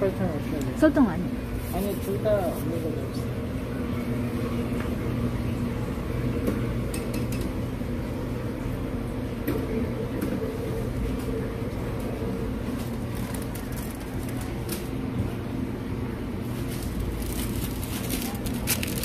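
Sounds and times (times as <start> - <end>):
kitchen machines humming: 0.0 - 19.0.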